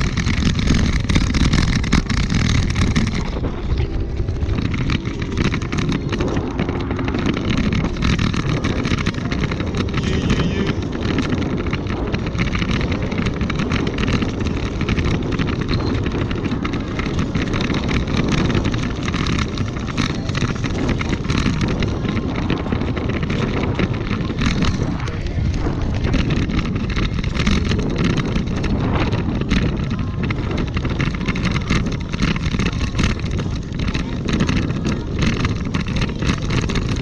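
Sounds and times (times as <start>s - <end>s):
rattles and jolts from riding: 0.0s - 37.0s
steady low rumble: 0.0s - 37.0s
wind buffeting microphone: 0.0s - 37.0s.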